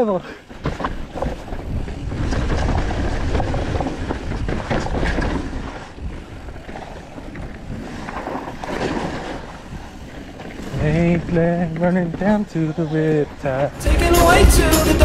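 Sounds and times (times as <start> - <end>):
bike rattling on rough ground: 0.0 - 12.7
wind buffeting microphone: 0.4 - 12.5.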